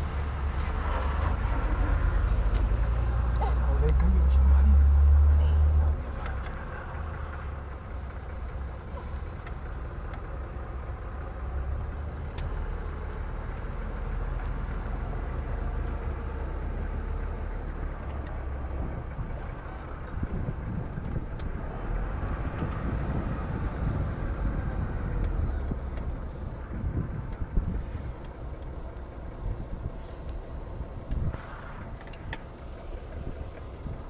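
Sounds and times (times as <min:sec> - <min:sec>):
engine idling: 0:00.0 - 0:34.0
uneven low rumbling: 0:00.0 - 0:34.0.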